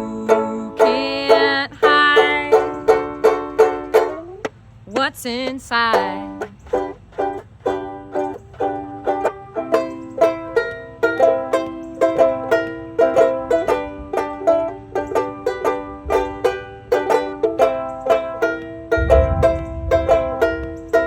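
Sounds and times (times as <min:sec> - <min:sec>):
banjo-uke strumming: 0:00.0 - 0:21.0.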